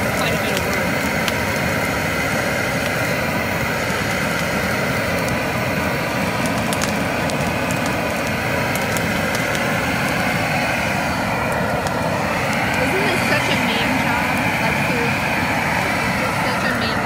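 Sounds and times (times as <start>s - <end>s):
faint crackles: 0.0s - 17.0s
torch flame hissing: 0.0s - 17.0s.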